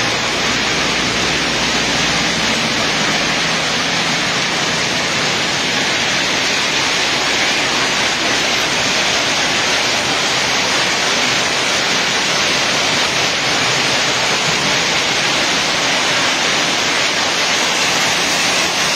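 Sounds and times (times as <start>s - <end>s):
hail and rain falling: 0.0s - 18.9s.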